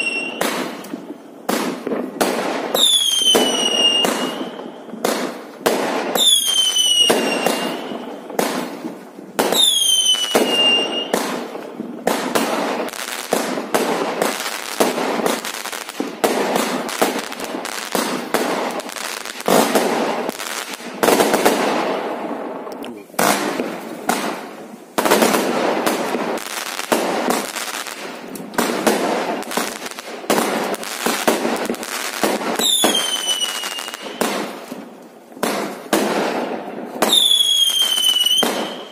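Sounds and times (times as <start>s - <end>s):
fireworks bangs and crackling: 0.0s - 38.9s
whistling fireworks: 0.0s - 38.9s.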